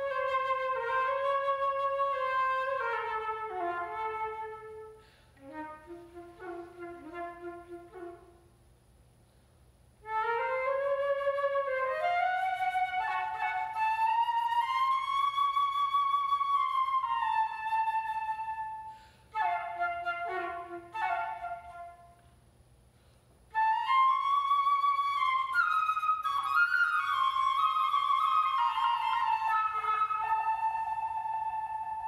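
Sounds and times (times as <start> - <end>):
flute playing: 0.0 - 8.5, 10.0 - 22.3, 23.5 - 32.0.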